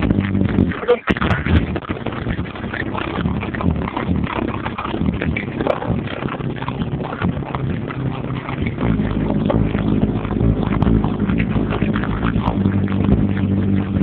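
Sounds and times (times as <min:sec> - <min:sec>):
distorted bass-heavy music: 0:00.0 - 0:14.0.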